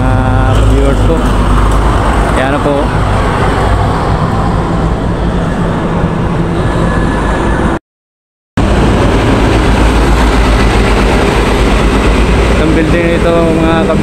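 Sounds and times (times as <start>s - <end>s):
road traffic rumble: 0.0s - 7.8s, 8.6s - 14.0s.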